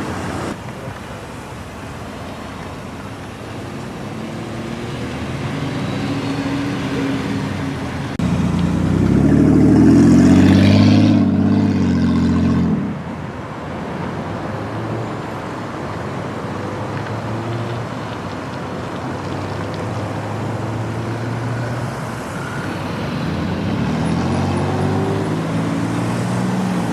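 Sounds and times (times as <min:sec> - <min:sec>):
road traffic passing: 0:00.0 - 0:26.9
vehicle engine drone: 0:03.3 - 0:13.3, 0:14.3 - 0:26.9.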